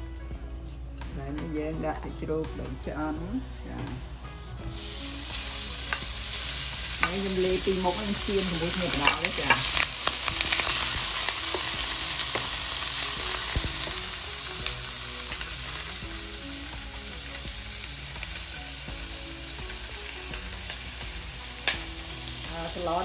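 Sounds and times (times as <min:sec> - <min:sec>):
food sizzling in a pan: 0:01.9 - 0:23.0.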